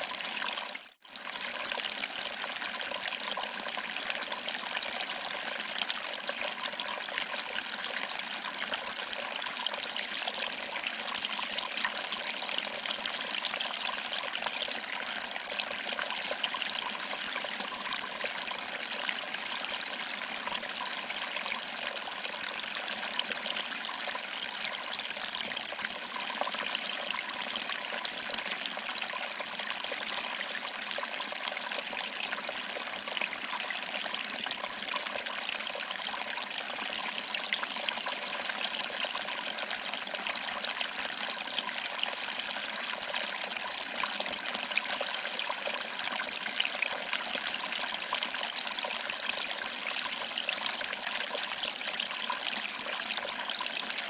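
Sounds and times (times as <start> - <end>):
water trickling over rocks: 0.0 - 54.0.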